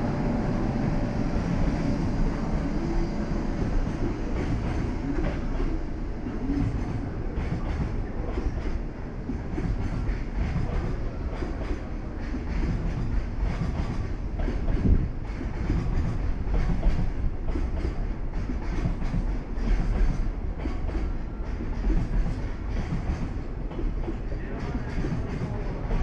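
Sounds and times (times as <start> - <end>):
freight train rumble: 0.0 - 26.0.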